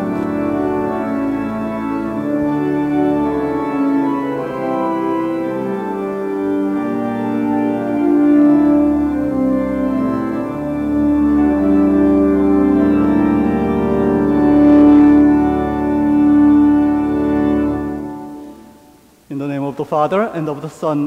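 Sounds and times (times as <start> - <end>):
church organ sustained chords: 0.0 - 19.3.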